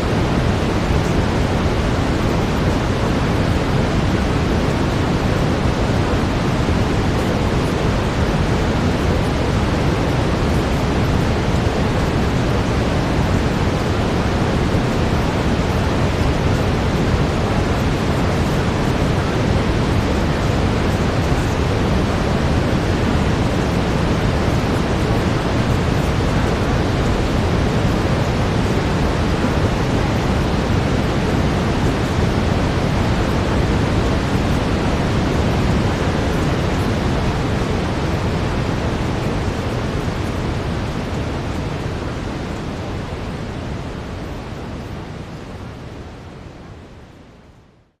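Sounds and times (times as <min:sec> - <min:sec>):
brown noise: 0:00.0 - 0:48.0.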